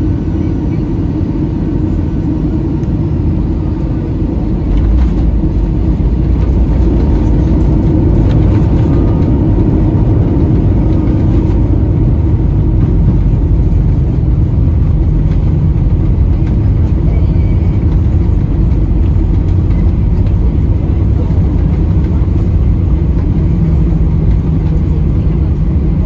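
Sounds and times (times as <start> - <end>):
jet engine cabin rumble: 0.0 - 26.0.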